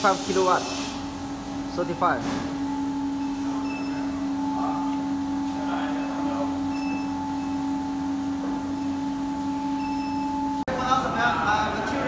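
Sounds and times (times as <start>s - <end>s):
furnace and chiller humming: 0.0s - 12.0s.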